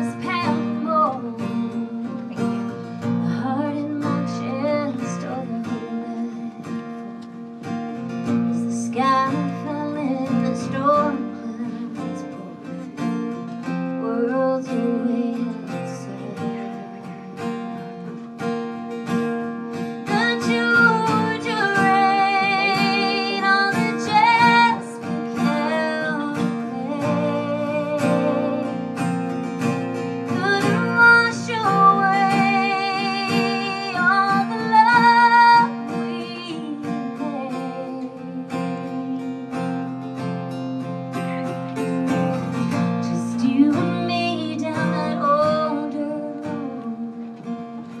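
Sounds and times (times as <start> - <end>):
woman singing with vibrato: 0.0 - 6.8, 8.5 - 13.1, 13.9 - 18.2, 20.0 - 29.1, 30.3 - 39.5, 42.8 - 47.9
acoustic guitar strumming: 0.0 - 48.0.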